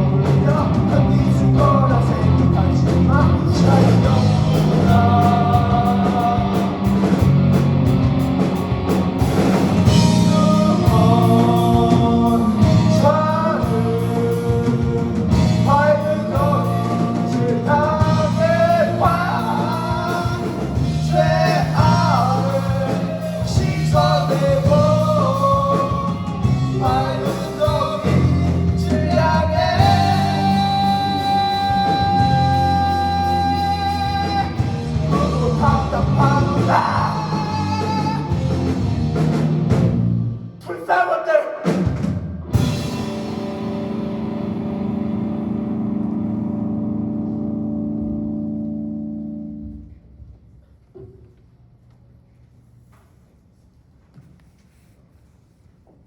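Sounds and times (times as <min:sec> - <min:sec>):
live rock band music: 0:00.0 - 0:40.5, 0:41.7 - 0:49.8.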